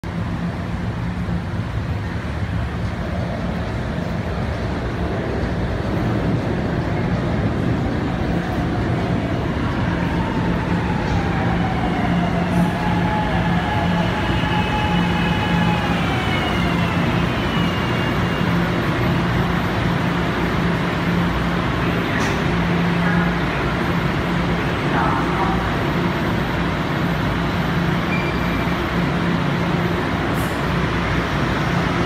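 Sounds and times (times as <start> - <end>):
subway train rumble: 0.0 - 32.0.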